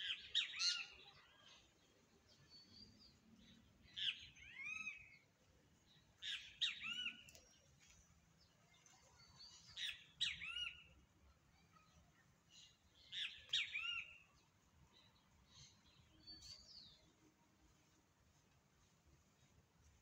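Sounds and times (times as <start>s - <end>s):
songbird singing: 0.0s - 17.5s.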